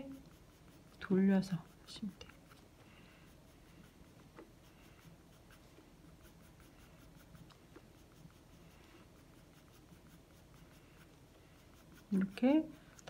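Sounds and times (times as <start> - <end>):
pencil scratching on paper: 0.0 - 12.9.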